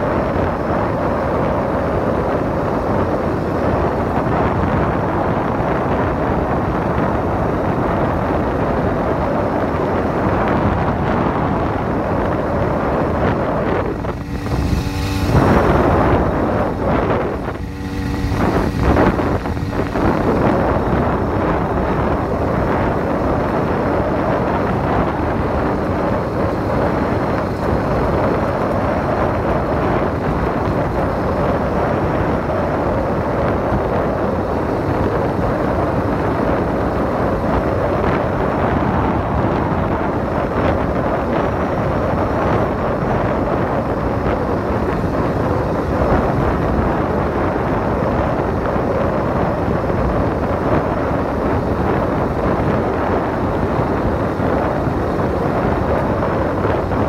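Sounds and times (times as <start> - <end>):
small motorbike engine running: 0.0 - 57.0
wind buffeting microphone: 0.0 - 57.0.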